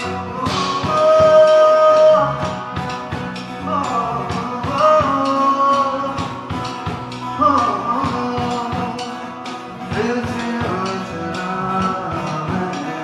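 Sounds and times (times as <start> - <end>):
live rock-pop band with singing: 0.0 - 13.0.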